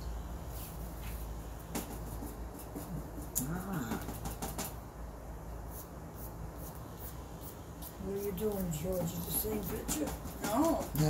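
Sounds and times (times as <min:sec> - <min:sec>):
steady low hum: 0:00.0 - 0:11.0
paintbrush scratching on canvas: 0:00.5 - 0:04.7, 0:05.7 - 0:11.0.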